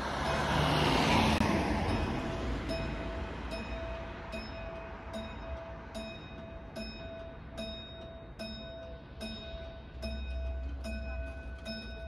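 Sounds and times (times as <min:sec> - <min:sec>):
level crossing warning bell ringing: 0:00.0 - 0:12.0.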